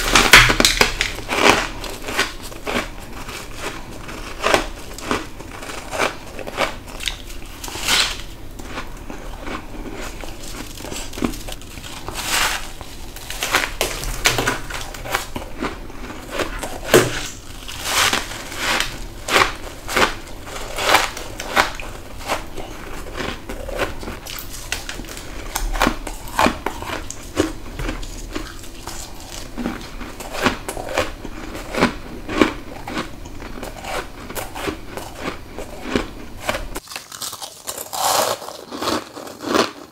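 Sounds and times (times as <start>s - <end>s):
biting crunchy frost: 0.0s - 39.9s.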